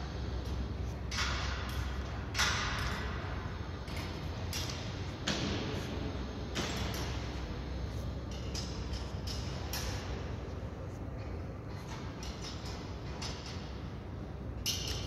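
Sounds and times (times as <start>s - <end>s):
low hum in hall: 0.0s - 15.0s.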